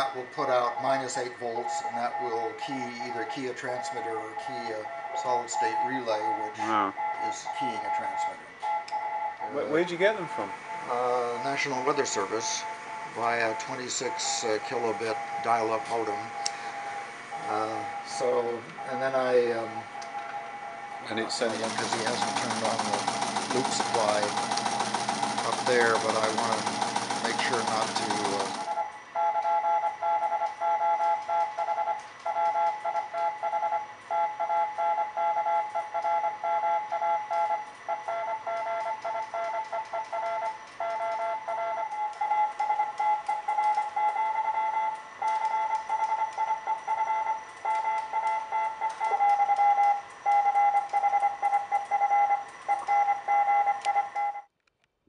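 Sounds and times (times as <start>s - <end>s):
radio telegraphy tones: 0.0s - 54.5s.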